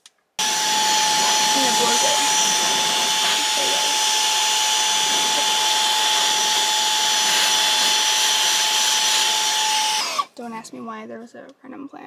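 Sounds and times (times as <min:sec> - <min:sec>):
handheld vacuum blowing air: 0:00.4 - 0:10.4.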